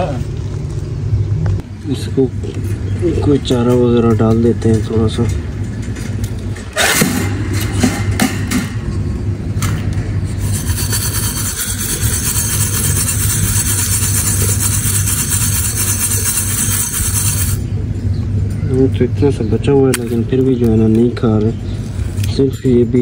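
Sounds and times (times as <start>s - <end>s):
low engine-like hum: 0.0s - 23.0s.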